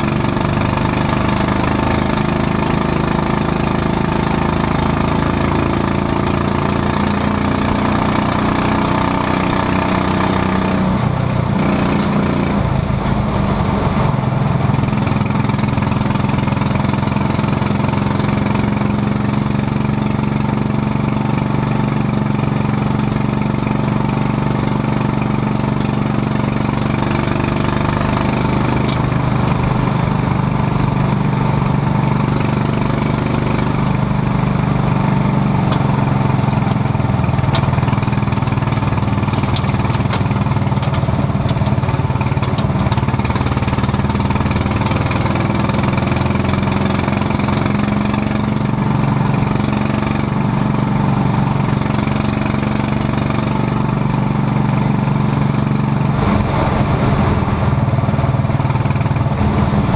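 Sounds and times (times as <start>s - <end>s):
small race car engine running: 0.0s - 59.9s.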